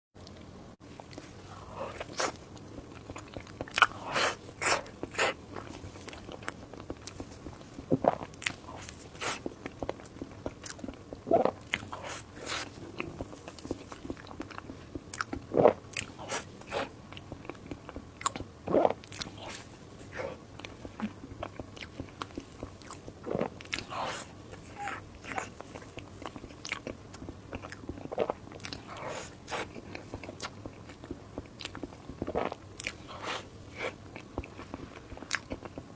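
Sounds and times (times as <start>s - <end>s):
person chewing and crunching food: 0.2s - 35.9s.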